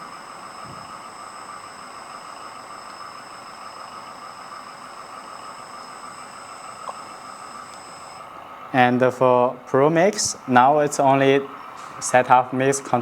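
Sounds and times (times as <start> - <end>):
faint high-pitched whines: 0.0 - 13.0.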